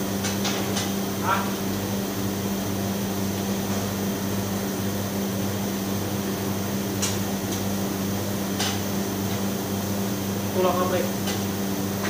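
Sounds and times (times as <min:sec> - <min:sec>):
deep hum of kitchen machinery: 0:00.0 - 0:12.0.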